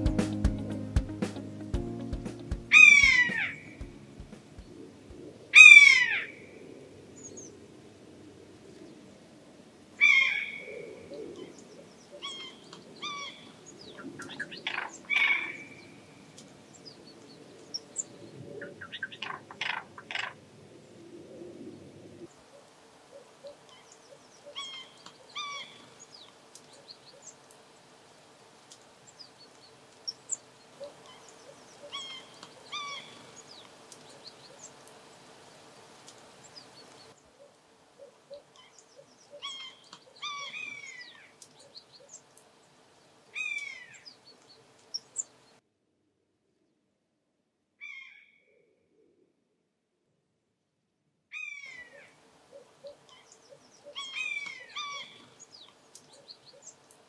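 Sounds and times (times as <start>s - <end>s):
birds calling: 0.0s - 6.5s, 10.0s - 20.4s, 21.7s - 45.6s, 51.4s - 57.0s
faint steady hum: 0.0s - 46.7s.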